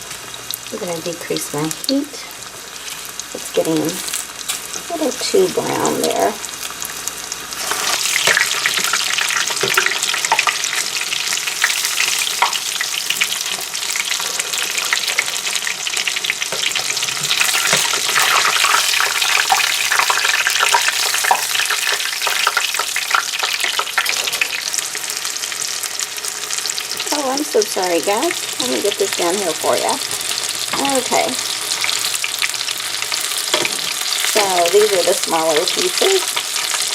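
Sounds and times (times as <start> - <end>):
chicken frying in hot oil: 0.0 - 36.9.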